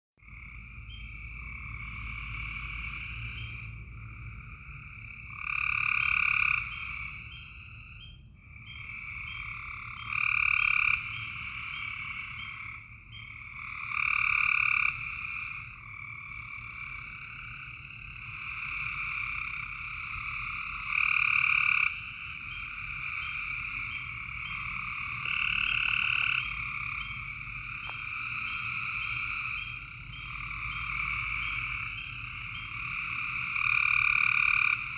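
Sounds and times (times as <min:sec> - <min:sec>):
frogs calling: 0:00.2 - 0:34.9.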